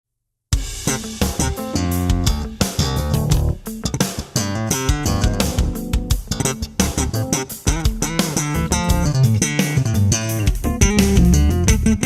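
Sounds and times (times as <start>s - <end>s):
bass guitar bassline: 0.6s - 12.0s
sharp percussive hits: 0.6s - 12.0s
plucked guitar notes: 0.8s - 12.0s.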